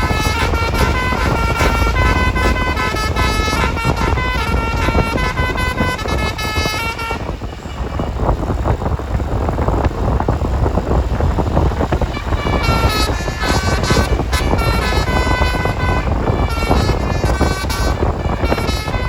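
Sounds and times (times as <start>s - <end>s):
bus passing: 0.0s - 19.0s
multi-tone bus horn: 0.0s - 19.0s.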